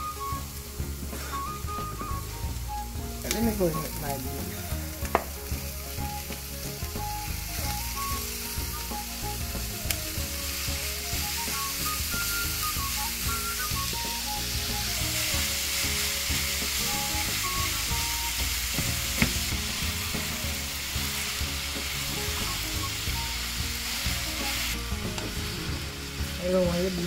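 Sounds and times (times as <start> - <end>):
meat sizzling in a pan: 0.0 - 27.0
soft background music: 0.0 - 27.0.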